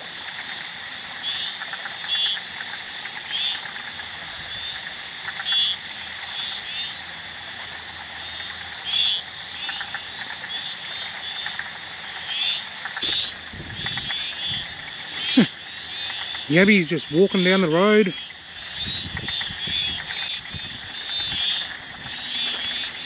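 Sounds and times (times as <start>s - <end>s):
frogs calling: 0.0s - 23.0s.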